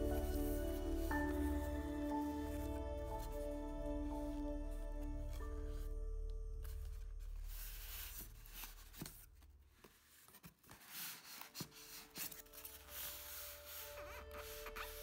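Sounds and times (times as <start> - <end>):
cardboard and styrofoam scraping: 0.0 - 6.0, 6.6 - 15.0
soft background music: 0.0 - 15.0.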